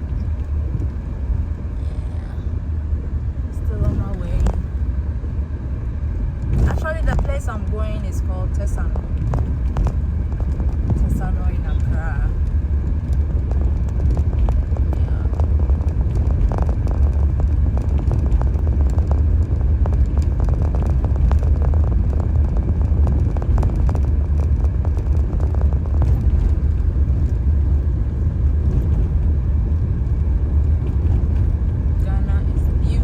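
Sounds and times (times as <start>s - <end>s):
road and engine rumble inside car: 0.0s - 33.0s.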